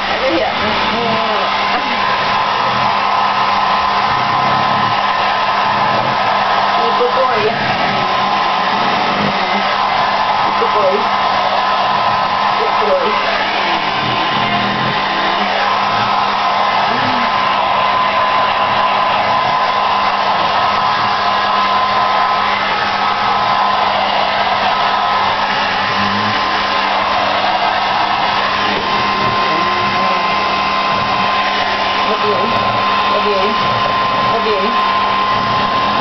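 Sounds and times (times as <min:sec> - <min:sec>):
hair dryer running: 0:00.0 - 0:36.0.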